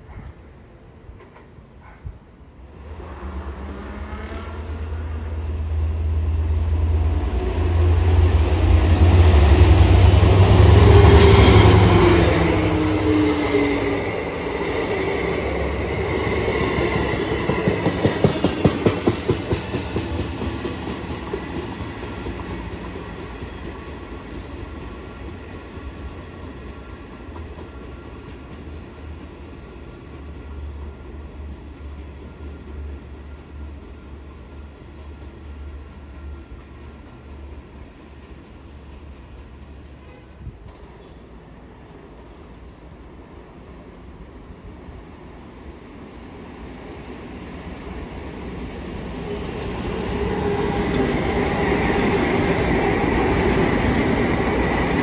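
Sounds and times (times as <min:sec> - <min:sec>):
train passing with deep hum: 0:00.0 - 0:55.0.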